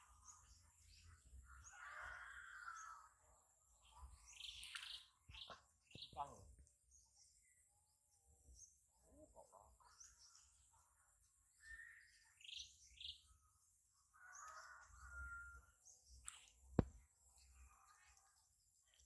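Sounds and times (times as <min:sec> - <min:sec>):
faint bird chirps and calls: 0:00.0 - 0:19.0.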